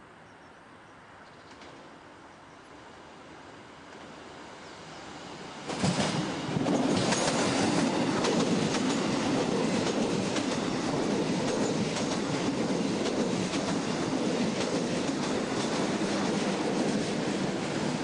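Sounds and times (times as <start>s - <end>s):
train coaches rumbling on rails: 1.3s - 18.0s.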